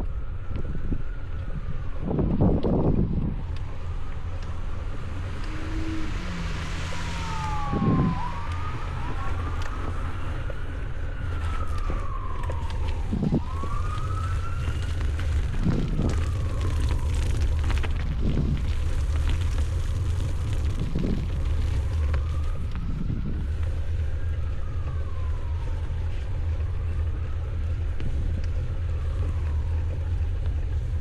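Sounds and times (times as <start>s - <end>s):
emergency siren wailing: 0.0s - 31.0s
low rumble: 0.0s - 31.0s.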